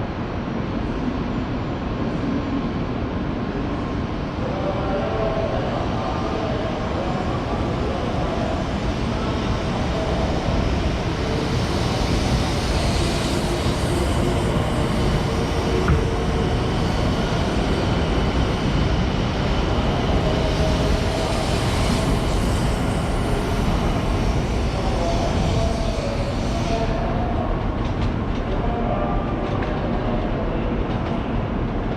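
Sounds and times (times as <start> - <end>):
train rumbling past: 0.0 - 31.9.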